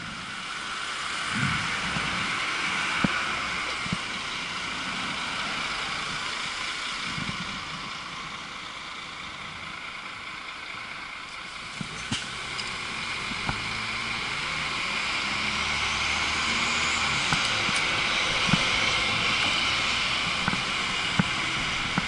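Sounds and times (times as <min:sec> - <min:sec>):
bus passing: 0:00.0 - 0:22.0.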